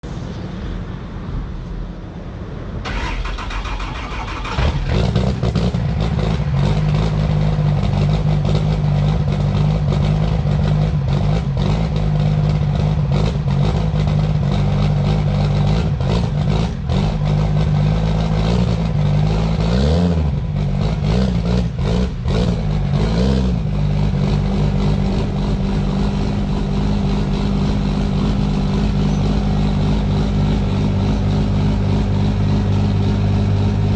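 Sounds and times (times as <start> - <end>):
diesel truck engine cranking and idling: 2.5 - 33.9
engine revving: 2.8 - 33.9.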